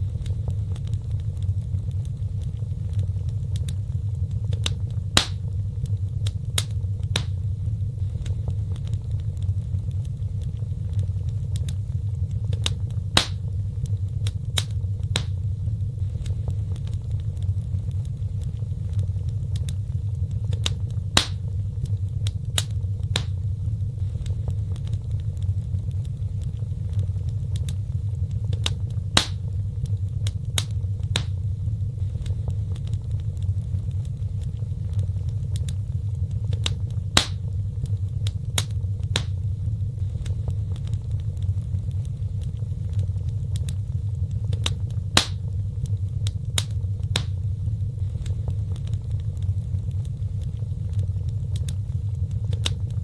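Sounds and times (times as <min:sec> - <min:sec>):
fire crackling and popping: 0:00.0 - 0:53.0
fire flames rumbling: 0:00.0 - 0:53.0.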